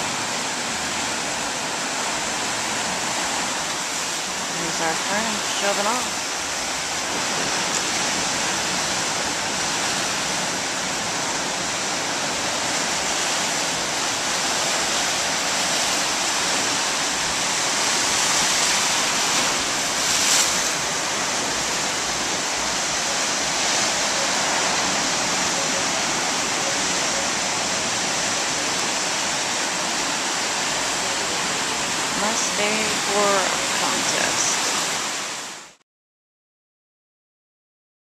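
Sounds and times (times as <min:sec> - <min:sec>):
ocean surf breaking: 0:00.0 - 0:35.8.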